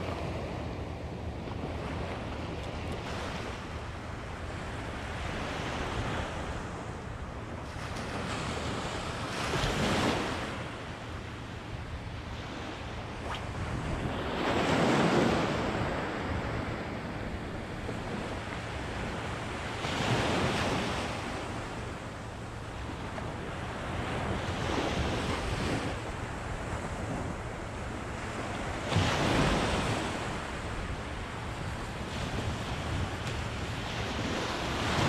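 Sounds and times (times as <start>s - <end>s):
small waves breaking: 0.0s - 35.0s
wind buffeting microphone: 0.0s - 35.0s.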